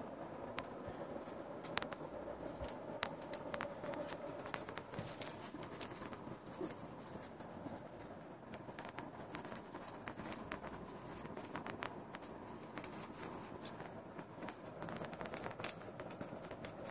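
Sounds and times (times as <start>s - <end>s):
faint hiss: 0.0s - 16.9s
kitten paws tapping on tiles: 0.4s - 16.9s.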